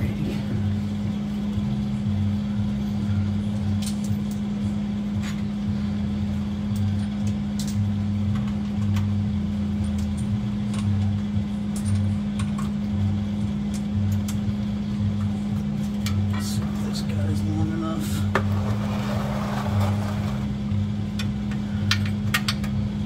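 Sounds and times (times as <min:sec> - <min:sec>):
low hum with wavering drone: 0:00.0 - 0:23.0.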